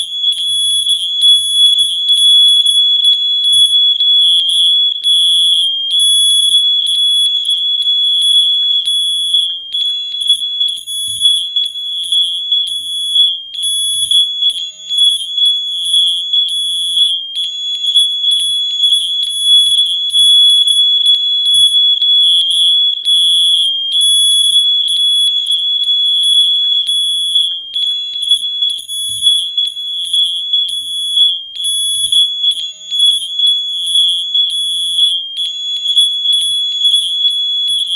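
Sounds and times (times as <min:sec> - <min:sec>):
smoke alarms beeping: 0:00.0 - 0:37.9.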